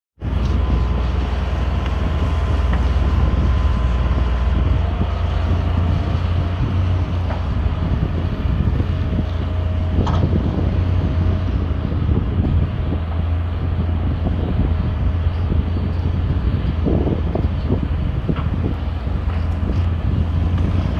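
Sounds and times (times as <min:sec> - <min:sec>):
excavator diesel engine running: 0:00.2 - 0:20.9
wind rumbling on microphone: 0:00.2 - 0:20.9.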